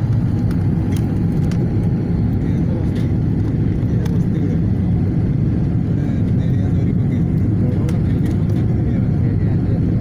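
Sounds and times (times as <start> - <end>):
jet airliner cabin rumble: 0.0 - 10.0.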